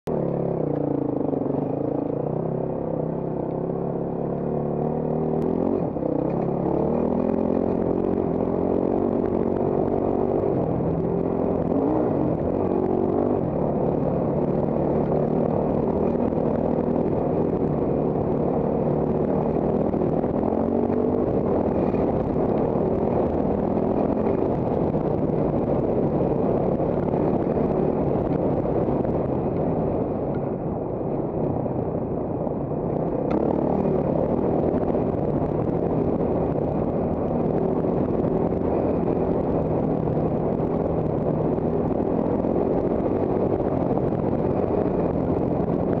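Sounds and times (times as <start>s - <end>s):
motorcycle engine revving: 0.0s - 30.4s, 32.9s - 46.0s.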